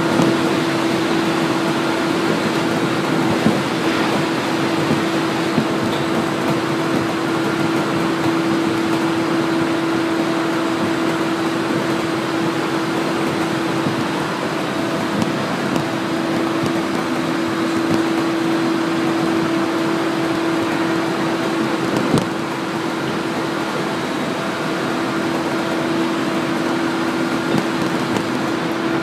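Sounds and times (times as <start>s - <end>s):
constant humming tone: 0.0s - 29.0s
train wheels rumbling on rail: 0.0s - 29.0s.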